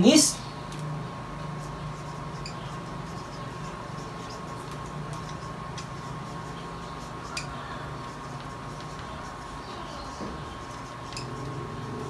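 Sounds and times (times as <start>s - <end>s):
steady low hum: 0.0s - 12.0s
marker pen scratching paper: 1.4s - 12.0s.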